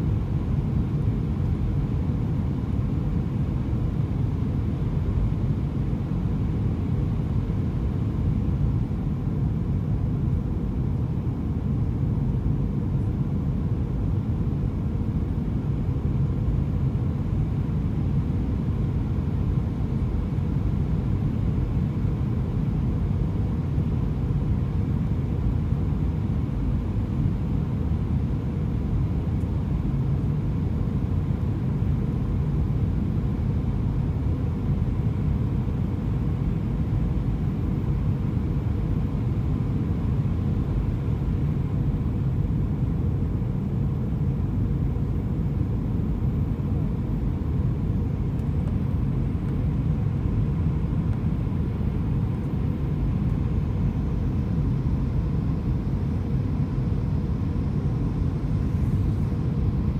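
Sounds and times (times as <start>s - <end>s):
airplane cabin rumble: 0.0s - 59.9s
faint steady hum: 0.0s - 59.9s.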